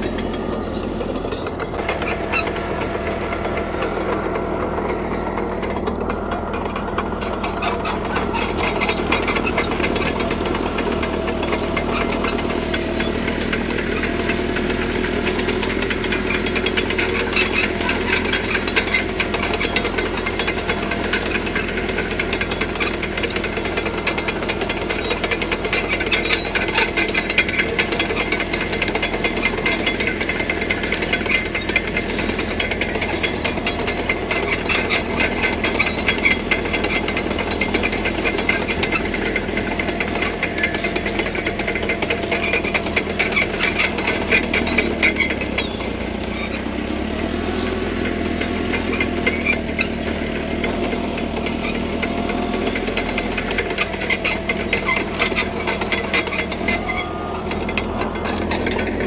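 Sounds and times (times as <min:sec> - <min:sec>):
diesel engine under load: 0:00.0 - 0:59.0
steel tracks clattering: 0:00.0 - 0:59.0.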